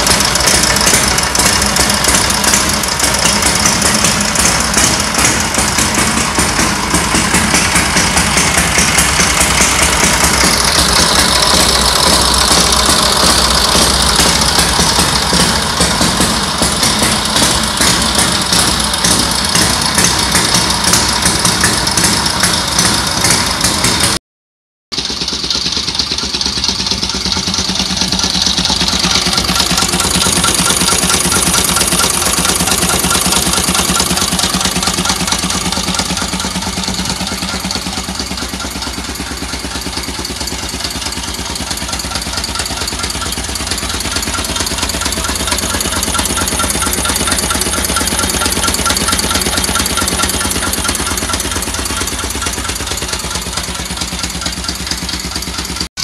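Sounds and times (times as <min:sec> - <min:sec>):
motorcycle engine idling: 0:00.0 - 0:24.2, 0:25.0 - 0:56.0.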